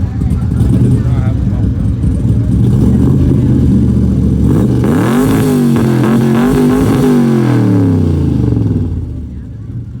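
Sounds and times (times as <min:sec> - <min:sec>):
car engine idling and revving: 0:00.0 - 0:10.0.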